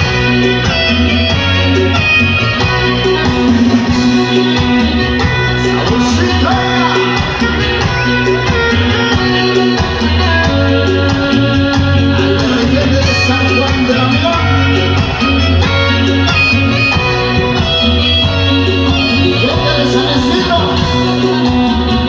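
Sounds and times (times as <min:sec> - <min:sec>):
heavy bass line: 0:00.0 - 0:22.0
live band playing: 0:00.0 - 0:22.0
person singing: 0:02.5 - 0:22.0.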